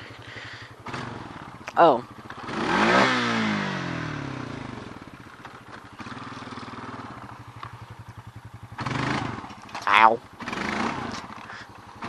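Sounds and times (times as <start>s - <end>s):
riding lawnmower engine: 0.0s - 12.0s.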